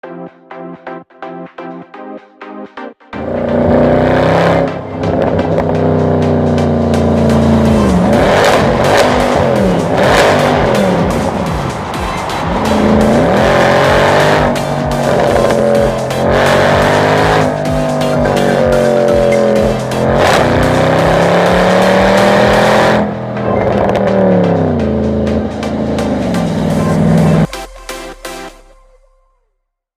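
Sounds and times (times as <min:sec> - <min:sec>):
car engine revving hard: 0:03.2 - 0:27.5.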